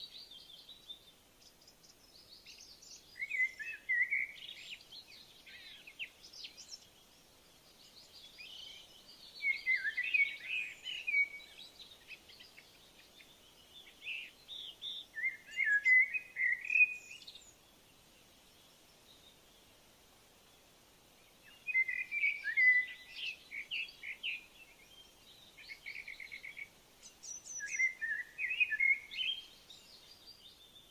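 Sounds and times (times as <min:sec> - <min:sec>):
faint outdoor background: 0:00.0 - 0:30.9
songbird chirping: 0:00.0 - 0:30.9.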